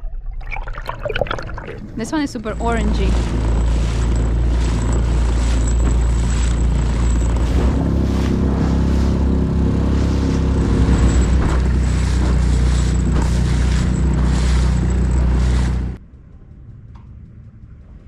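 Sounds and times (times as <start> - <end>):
boat motor running: 1.4 - 16.0.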